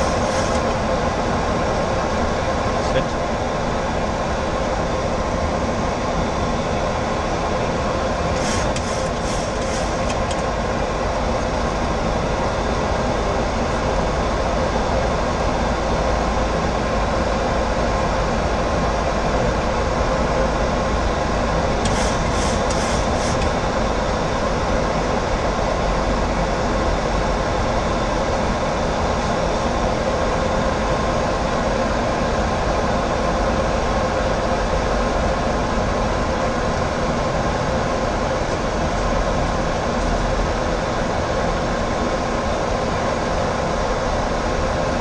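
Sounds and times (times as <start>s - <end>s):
airflow rushing over cockpit: 0.0s - 45.0s.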